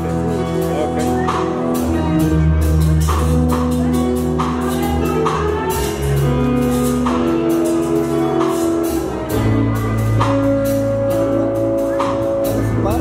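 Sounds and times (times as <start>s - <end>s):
live band sustained chords: 0.0s - 13.0s.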